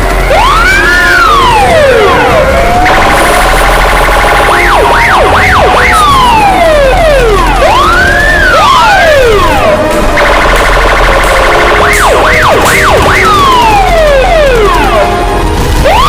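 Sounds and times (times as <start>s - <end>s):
fast pulsing alarm: 0.0s - 16.0s
siren wails: 0.0s - 16.0s.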